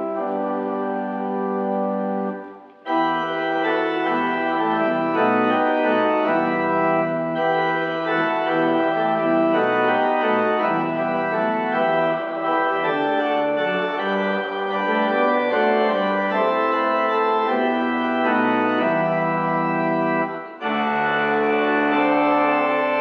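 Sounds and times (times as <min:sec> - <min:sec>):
church organ playing chords: 0:00.0 - 0:23.0.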